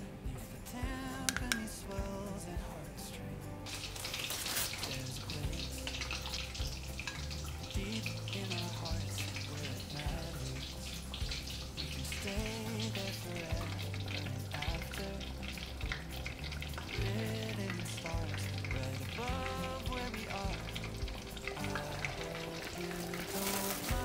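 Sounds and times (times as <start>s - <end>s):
quiet background music: 0.0s - 24.0s.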